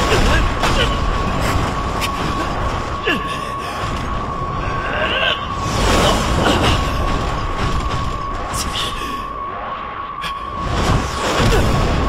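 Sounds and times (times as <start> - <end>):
high hum: 0.0 - 12.0
low rumble: 0.0 - 12.0.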